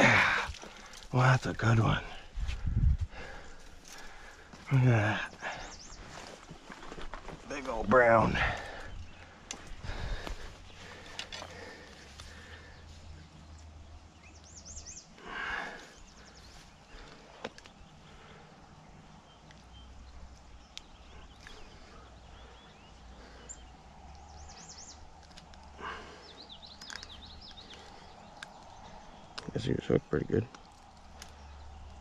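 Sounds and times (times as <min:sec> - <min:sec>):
low outdoor background noise: 0:00.0 - 0:32.0
songbirds singing: 0:00.0 - 0:32.0.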